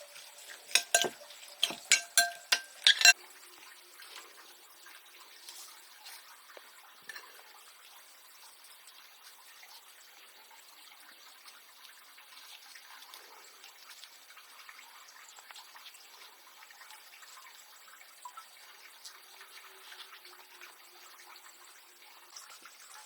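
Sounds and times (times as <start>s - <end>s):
faint trickle of water: 0.0s - 23.0s.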